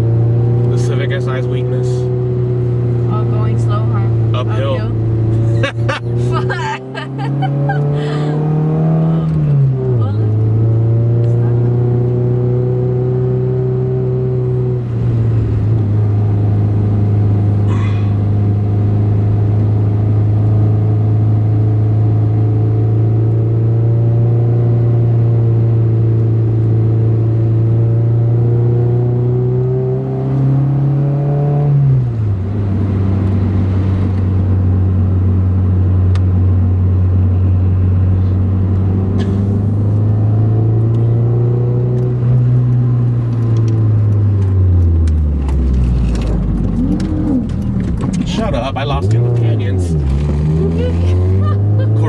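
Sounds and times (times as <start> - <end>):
car engine droning: 0.0 - 52.0.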